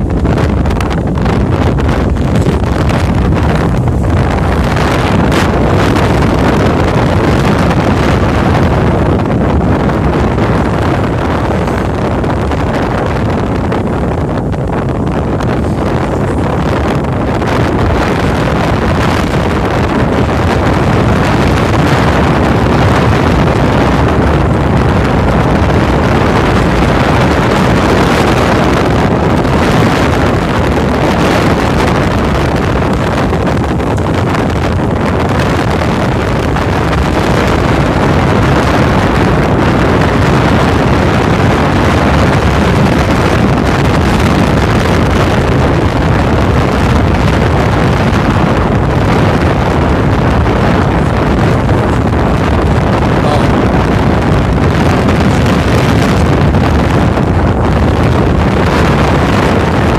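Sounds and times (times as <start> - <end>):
boat engine running: 0.0 - 59.9
wind buffeting microphone: 0.0 - 59.9.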